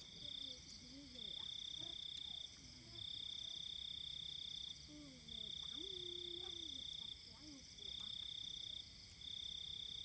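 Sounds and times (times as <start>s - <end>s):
cricket trilling: 0.0s - 10.0s
insect drone: 0.0s - 10.0s.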